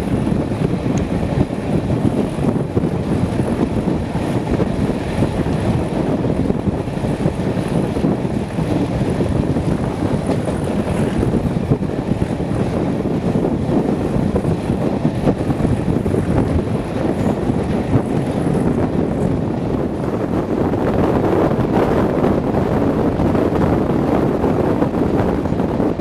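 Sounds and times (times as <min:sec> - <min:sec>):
train running noise: 0:00.0 - 0:26.0
wind buffeting microphone: 0:00.0 - 0:26.0.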